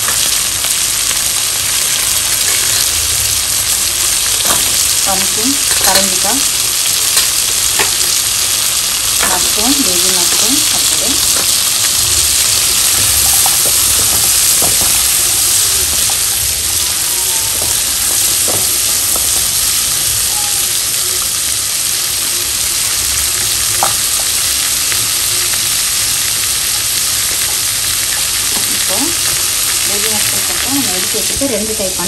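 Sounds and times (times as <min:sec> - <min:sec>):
vegetables sizzling in a wok: 0:00.0 - 0:32.0.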